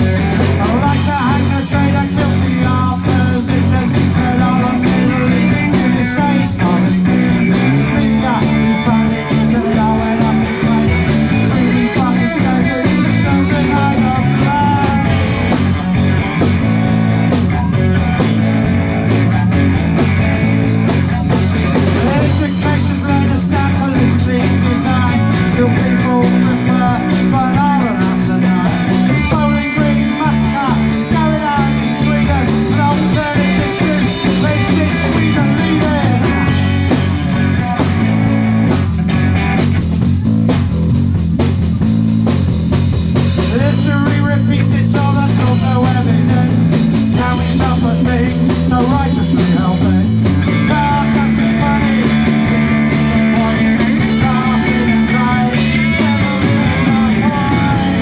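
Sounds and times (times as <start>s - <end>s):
bass guitar: 0.0s - 58.0s
drums: 0.0s - 58.0s
electric guitar: 0.0s - 58.0s.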